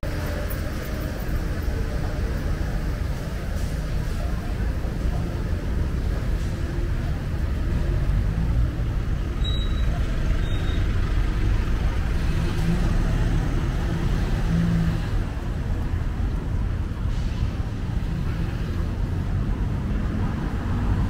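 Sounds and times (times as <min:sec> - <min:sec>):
low rumble of vehicle engines: 0:00.0 - 0:21.0.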